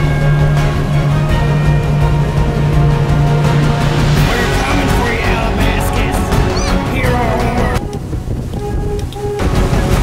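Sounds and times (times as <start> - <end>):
background music: 0.0 - 10.0
low rumble: 0.0 - 10.0
water rushing past boat: 0.0 - 10.0
wind buffeting microphone: 0.1 - 10.0.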